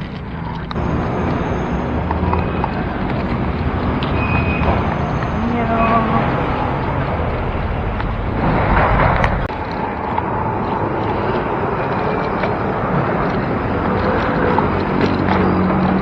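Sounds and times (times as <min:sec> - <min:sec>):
road traffic: 0:00.0 - 0:16.0
wind on microphone: 0:00.0 - 0:16.0.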